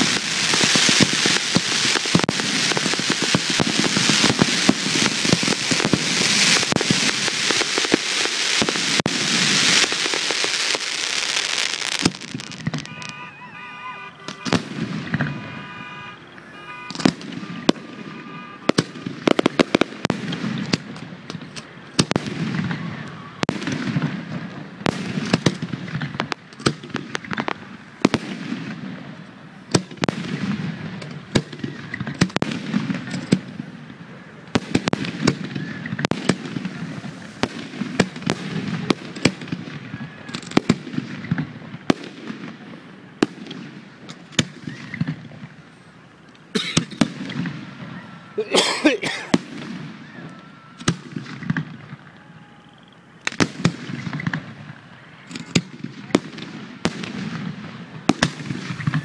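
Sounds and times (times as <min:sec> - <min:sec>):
fireworks bursting with echo: 0:00.0 - 0:59.0.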